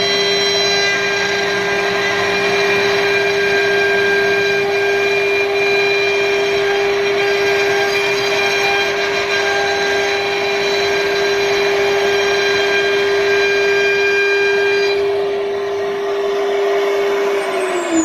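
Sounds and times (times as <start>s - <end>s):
router spindle motor whine: 0.0s - 18.0s.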